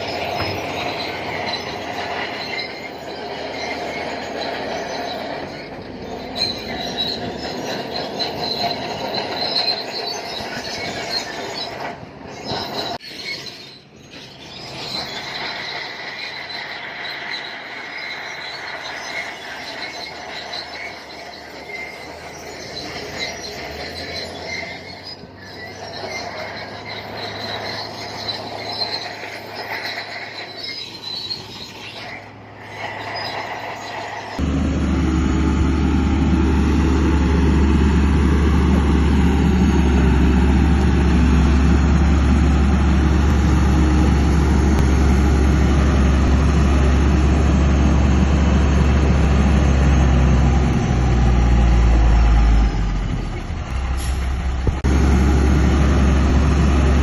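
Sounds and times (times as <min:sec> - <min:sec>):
bulldozer engine running: 0:00.0 - 0:57.0
bulldozer tracks squealing: 0:00.0 - 0:57.0.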